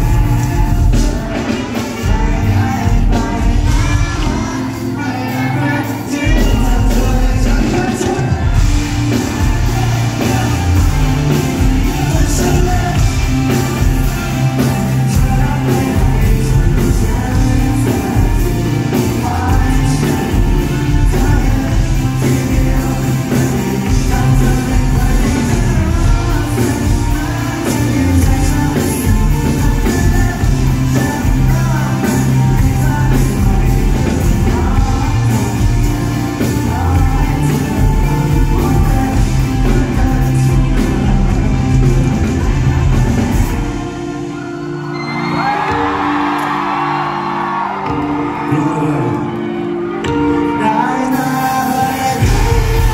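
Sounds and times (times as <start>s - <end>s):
man singing into microphone: 0.0s - 8.8s, 9.4s - 42.6s, 47.9s - 52.9s
pop-rock band playing live: 0.0s - 52.9s.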